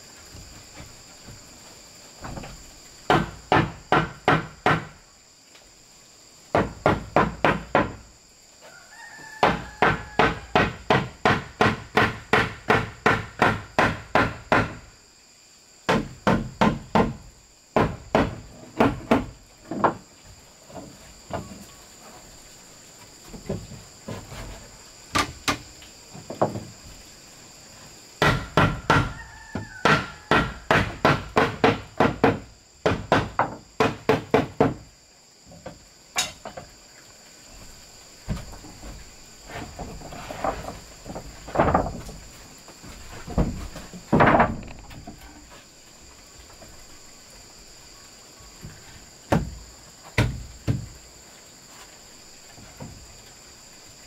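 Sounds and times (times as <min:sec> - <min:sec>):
high buzz of insects: 0:00.0 - 0:54.0.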